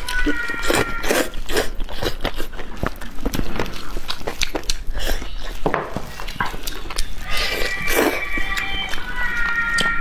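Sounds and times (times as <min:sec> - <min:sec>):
chewing and tearing meat: 0:00.0 - 0:10.0.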